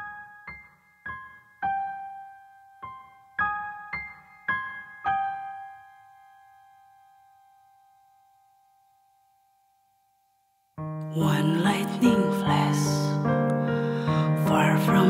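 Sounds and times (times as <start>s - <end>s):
slow piano notes: 0.0s - 10.2s, 10.8s - 15.0s.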